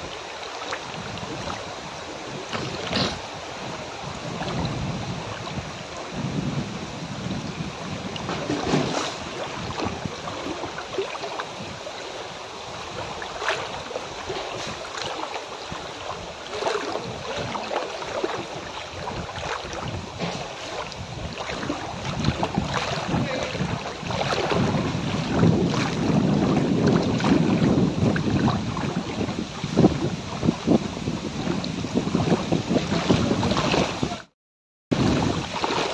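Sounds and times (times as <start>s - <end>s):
floodwater sloshing and splashing: 0.0s - 34.3s, 34.9s - 35.9s.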